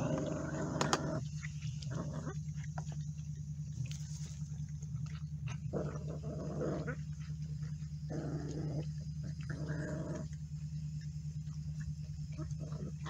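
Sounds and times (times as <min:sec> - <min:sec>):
puppies growling: 0:00.0 - 0:13.0
steady low hum: 0:00.0 - 0:13.0.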